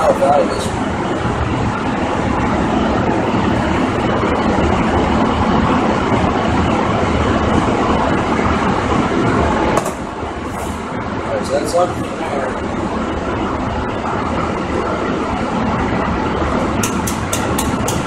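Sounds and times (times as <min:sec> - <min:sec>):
blower fan rushing hum: 0:00.0 - 0:18.0.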